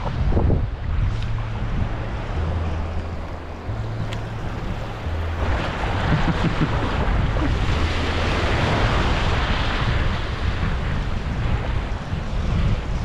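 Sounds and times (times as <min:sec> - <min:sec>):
surf washing onto beach: 0:00.0 - 0:13.0
wind buffeting microphone: 0:00.0 - 0:13.0.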